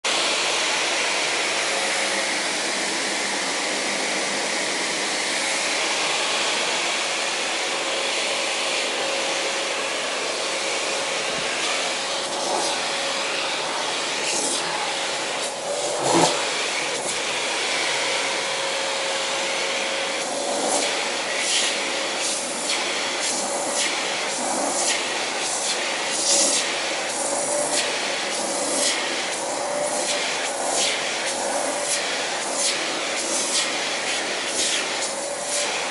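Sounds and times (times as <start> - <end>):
vacuum cleaner whining: 0.0 - 35.9.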